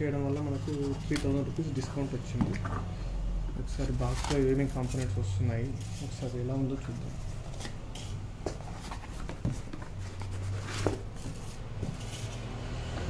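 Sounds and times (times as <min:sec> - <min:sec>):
cardboard and plastic rustling: 0:00.0 - 0:02.9, 0:03.7 - 0:12.5.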